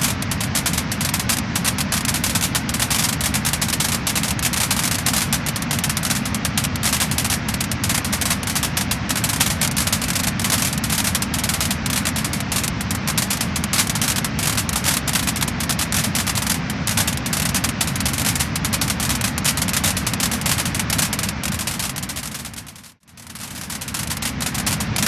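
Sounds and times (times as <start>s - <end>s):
steady low rumble: 0.0s - 23.0s
wood fire crackling and popping: 0.0s - 25.0s.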